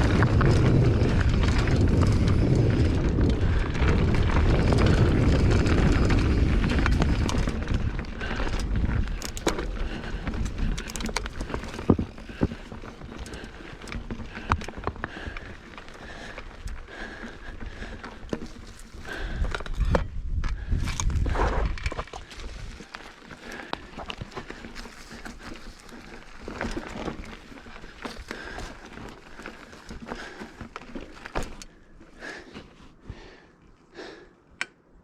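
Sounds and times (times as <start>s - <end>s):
wind buffeting microphone: 0.0s - 30.7s
bike rattling clicks and knocks: 0.0s - 33.4s
bike tyres rumbling on trail: 0.0s - 34.3s.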